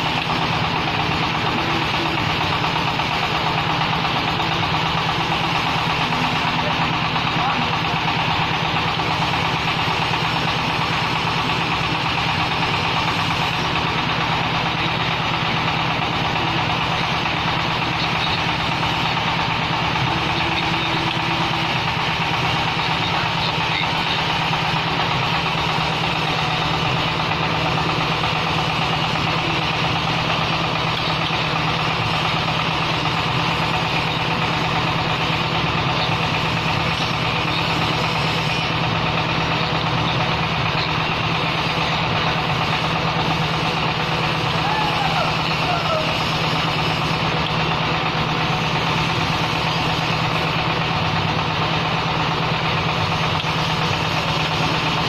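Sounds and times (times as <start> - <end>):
machine engine pulsing: 0.0 - 55.0.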